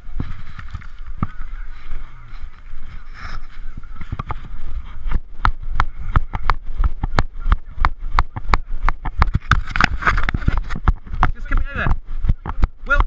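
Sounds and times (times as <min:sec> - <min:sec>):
running footsteps: 0:00.0 - 0:13.0.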